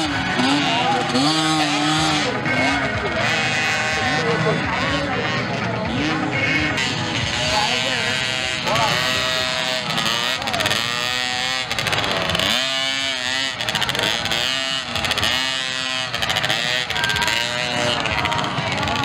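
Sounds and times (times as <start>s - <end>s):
mini motocross bikes racing: 0.0s - 19.0s.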